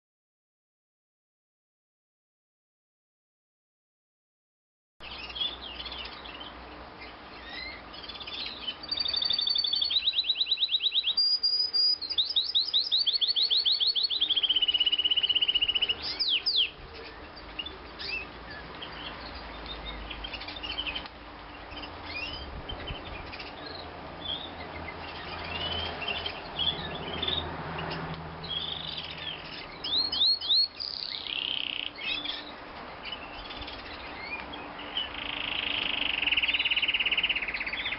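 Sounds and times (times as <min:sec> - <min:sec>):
bird chirps and twitters: 0:05.0 - 0:37.9
canary singing trills: 0:05.0 - 0:37.9.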